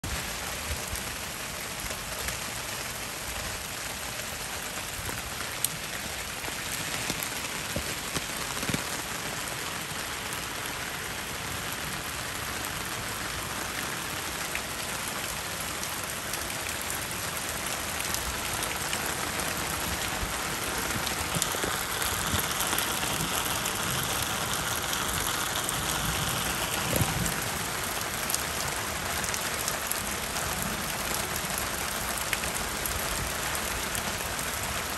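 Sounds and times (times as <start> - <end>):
rain falling on water and concrete: 0.0 - 34.9.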